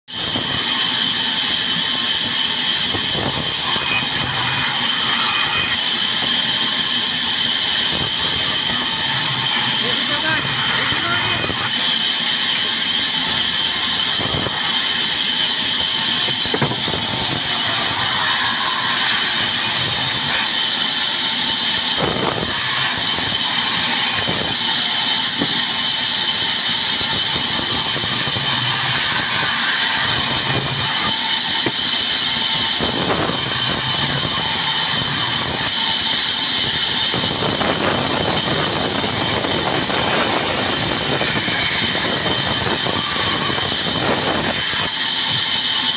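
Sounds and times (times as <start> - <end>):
band saw whining: 0.1 - 45.9
saw blade cutting log: 0.1 - 45.9.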